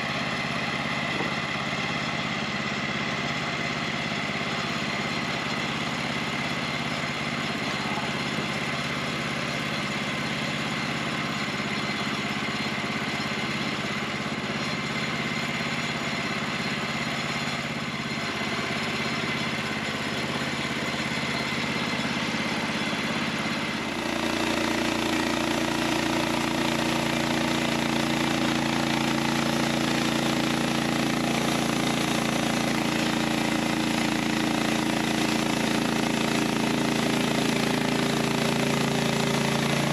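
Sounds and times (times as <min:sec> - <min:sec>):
small gasoline engine idling: 0:00.0 - 0:39.9.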